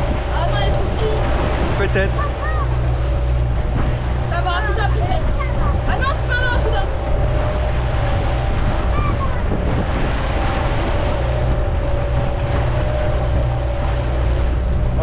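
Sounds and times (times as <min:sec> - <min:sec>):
steady low hum: 0:00.0 - 0:15.0
water rushing in boat wake: 0:00.0 - 0:15.0
wind buffeting microphone: 0:00.0 - 0:15.0.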